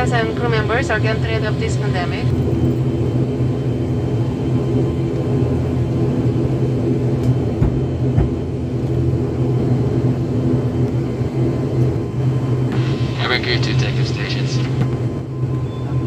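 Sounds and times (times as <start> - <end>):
airliner engines droning: 0.0 - 16.0.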